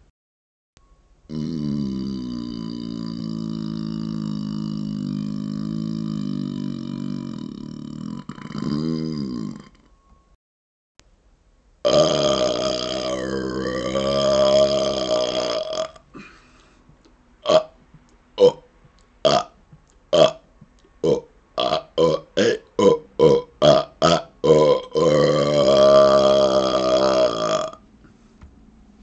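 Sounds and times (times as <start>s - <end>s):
man burping: 1.3s - 9.9s, 11.9s - 16.4s, 17.4s - 27.8s.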